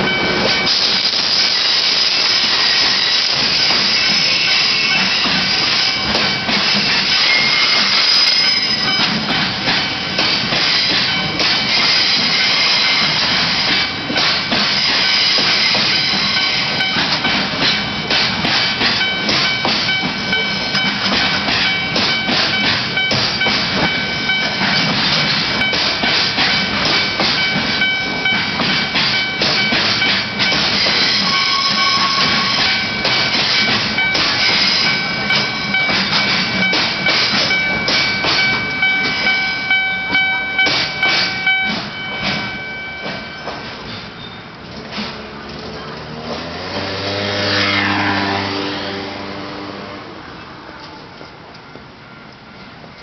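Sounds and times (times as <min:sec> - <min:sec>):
crossing warning bell ringing: 0:00.0 - 0:44.6
train wheels clattering: 0:00.0 - 0:48.6.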